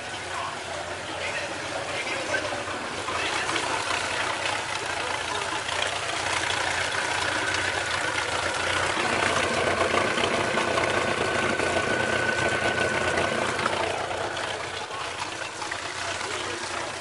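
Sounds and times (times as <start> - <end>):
boat engine idling: 0.0 - 17.0
water spraying and splashing: 0.0 - 17.0.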